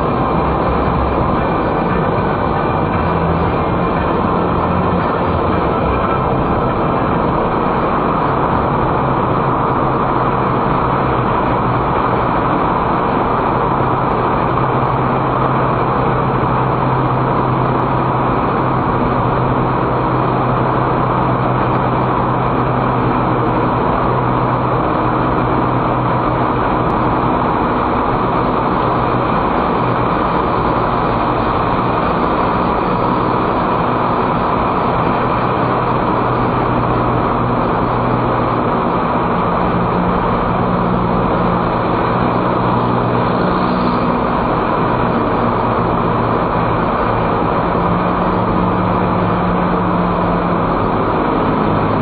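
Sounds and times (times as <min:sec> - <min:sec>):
car engine hum: 0:00.0 - 0:52.0
tyre and road noise: 0:00.0 - 0:52.0.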